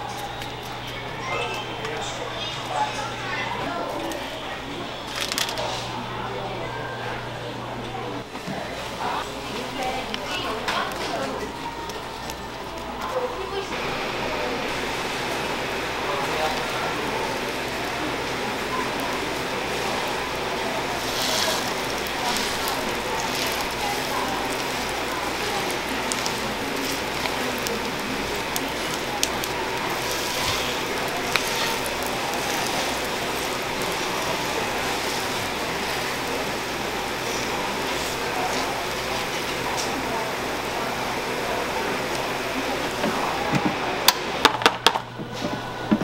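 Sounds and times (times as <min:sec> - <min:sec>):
dough sizzling on waffle iron: 0:08.7 - 0:46.0.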